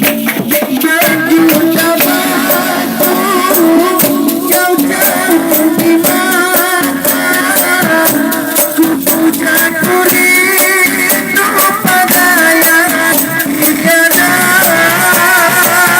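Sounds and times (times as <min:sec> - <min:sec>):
sharp percussion beat: 0:00.0 - 0:15.9.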